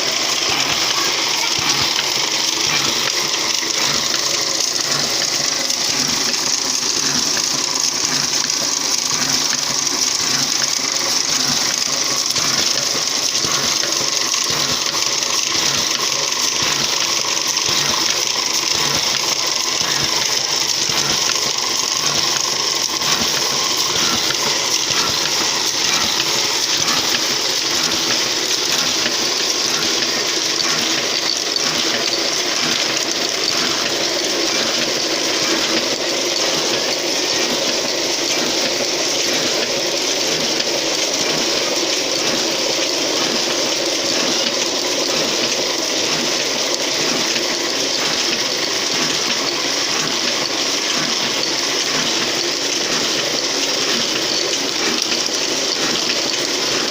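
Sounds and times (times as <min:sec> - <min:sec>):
clatter of mechanical strokes: 0:00.0 - 0:56.9
small machine running: 0:00.0 - 0:56.9.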